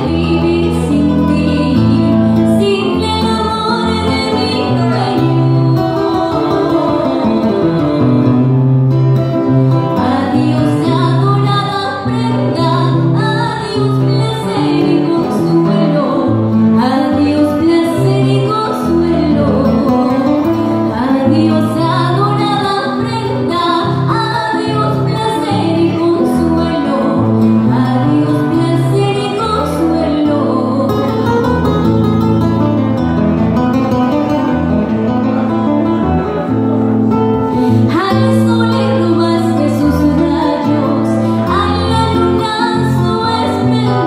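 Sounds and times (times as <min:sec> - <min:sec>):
woman singing into a microphone: 0:00.0 - 0:34.5, 0:37.3 - 0:44.0
acoustic guitar: 0:00.0 - 0:44.0.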